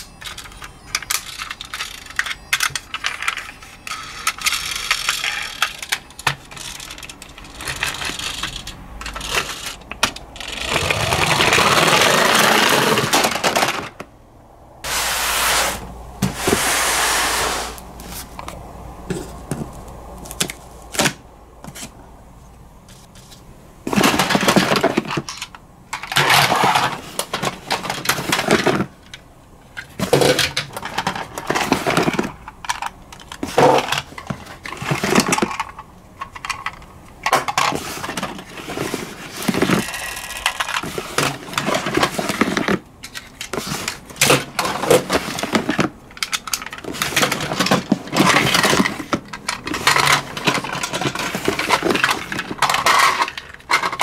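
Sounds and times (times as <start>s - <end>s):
plastic toys clattering: 0.0s - 14.1s, 18.0s - 22.0s, 22.9s - 54.0s.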